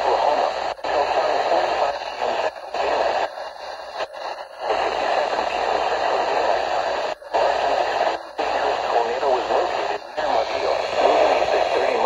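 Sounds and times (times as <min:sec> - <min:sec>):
radio hiss and static: 0:00.0 - 0:12.0
weather radio broadcast: 0:00.0 - 0:12.0.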